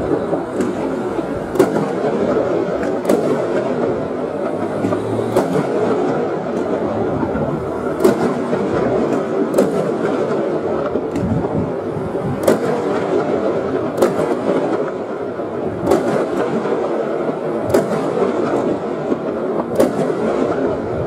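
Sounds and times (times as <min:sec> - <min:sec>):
low rumble of firework bangs: 0:00.0 - 0:21.0
sharp firework cracks: 0:00.0 - 0:21.0.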